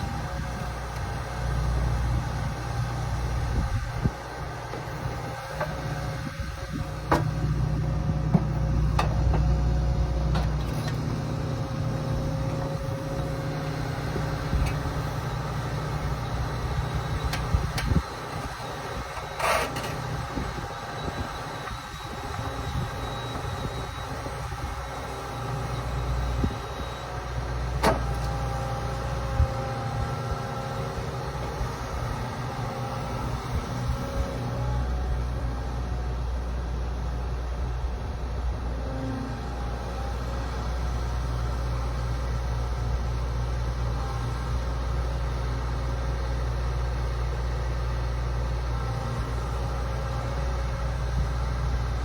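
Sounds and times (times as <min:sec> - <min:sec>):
excavator diesel engine rumble: 0:00.0 - 0:52.0.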